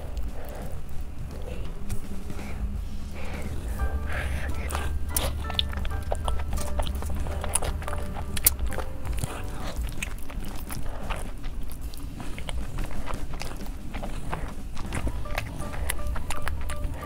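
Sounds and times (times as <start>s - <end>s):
sticky mouth clicks: 0.0s - 17.0s
wet chewing and slurping: 0.0s - 17.0s.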